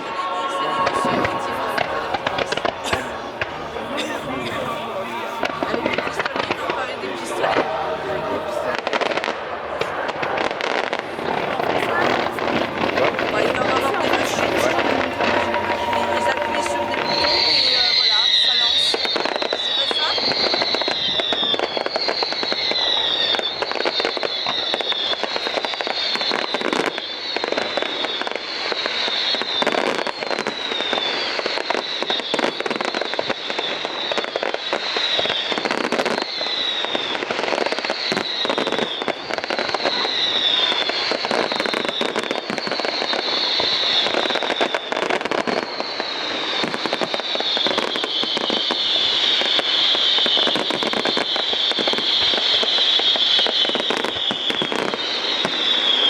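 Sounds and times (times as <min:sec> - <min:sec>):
falling firework whistles: 0:00.0 - 0:56.0
fireworks bangs and crackles: 0:00.0 - 0:56.0.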